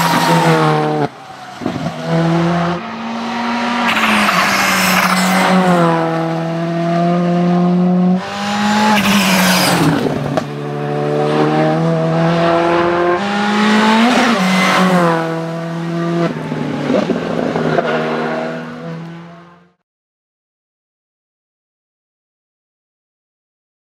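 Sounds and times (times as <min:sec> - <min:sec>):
rally car engine passing: 0:00.0 - 0:19.7.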